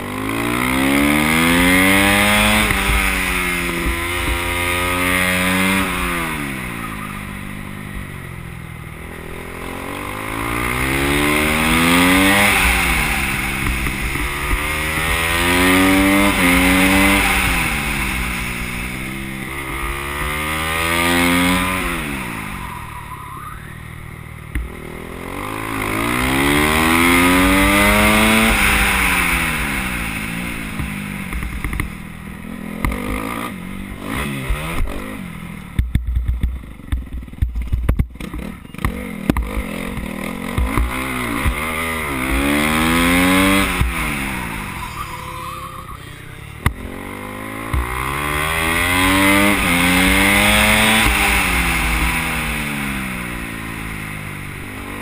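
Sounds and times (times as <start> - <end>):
go-kart engine accelerating: 0.0 - 55.0.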